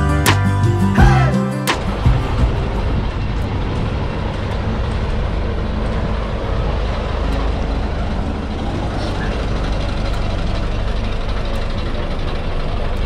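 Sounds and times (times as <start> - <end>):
bus engine driving past: 0.0 - 13.0.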